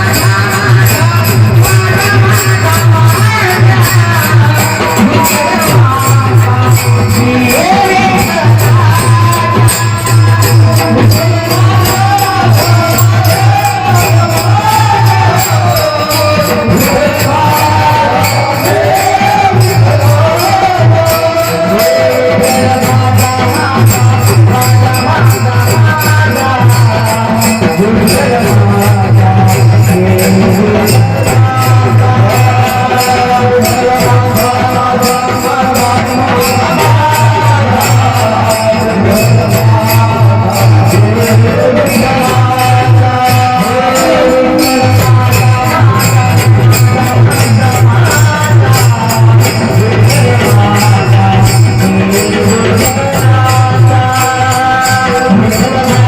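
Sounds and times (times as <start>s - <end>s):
hand percussion: 0.0s - 56.0s
person singing devotional melody: 0.0s - 56.0s.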